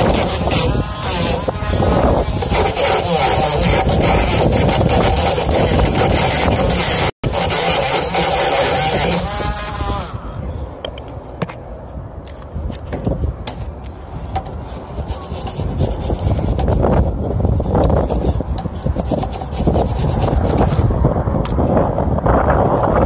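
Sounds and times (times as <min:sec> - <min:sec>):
rubbing and scraping: 0:00.0 - 0:10.2, 0:12.3 - 0:20.9.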